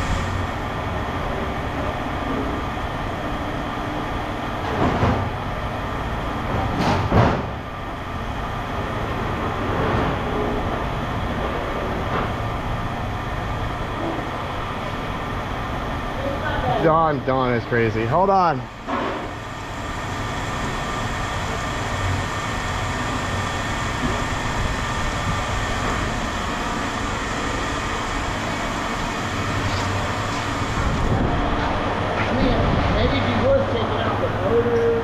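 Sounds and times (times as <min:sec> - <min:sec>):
machinery rumbling: 0:00.0 - 0:35.0.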